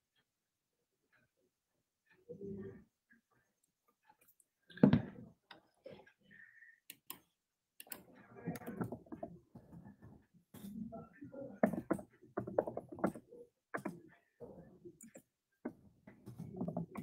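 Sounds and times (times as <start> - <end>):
faint clicks and taps: 2.1 - 6.2, 6.9 - 17.0.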